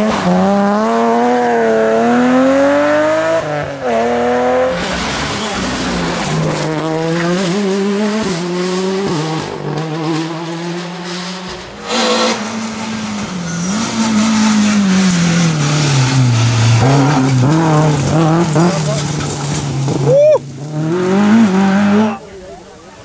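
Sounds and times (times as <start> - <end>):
rally car engine revving: 0.0 - 22.7.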